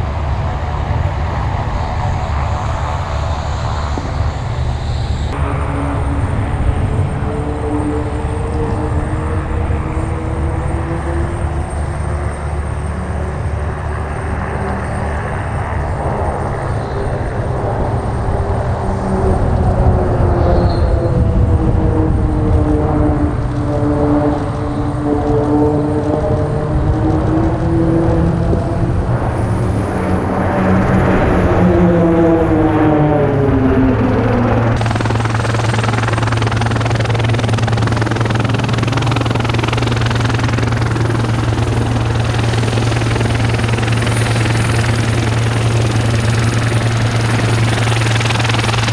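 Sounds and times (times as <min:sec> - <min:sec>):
propeller aircraft droning overhead: 0:00.0 - 0:48.9.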